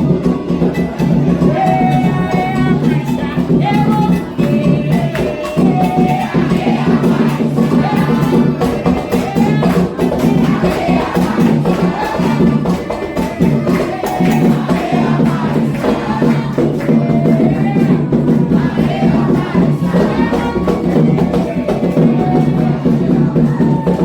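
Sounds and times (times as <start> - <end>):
group of voices chanting: 0.0 - 24.0
hand drumming: 0.0 - 24.0
rattling percussion: 0.0 - 24.0.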